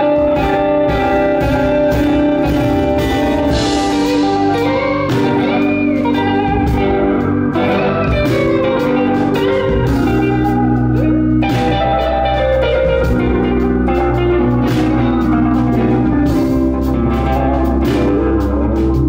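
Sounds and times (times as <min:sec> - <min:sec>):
bass line: 0:00.0 - 0:19.0
drums: 0:00.0 - 0:19.0
electric guitar: 0:00.0 - 0:19.0.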